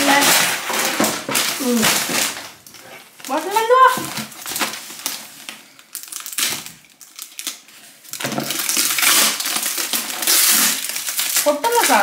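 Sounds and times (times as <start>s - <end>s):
paper wrapping crinkling: 0.0s - 12.0s.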